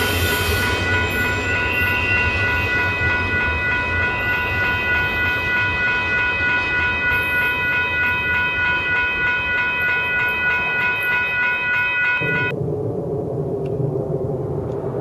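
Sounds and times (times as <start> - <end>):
high-pitched ringing tone: 0.0 - 12.6
freight train rumbling past: 0.0 - 15.0
jet engines passing overhead: 0.0 - 15.0.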